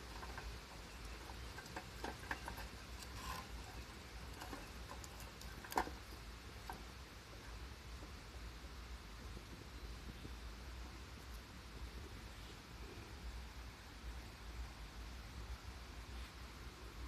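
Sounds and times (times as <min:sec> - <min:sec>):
campfire crackling: 0:00.0 - 0:15.7.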